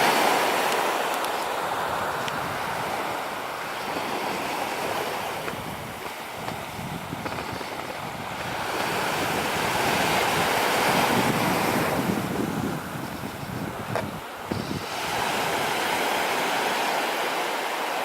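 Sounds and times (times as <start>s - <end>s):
sea waves breaking on shore: 0.0s - 18.0s
wind buffeting microphone: 1.7s - 16.8s.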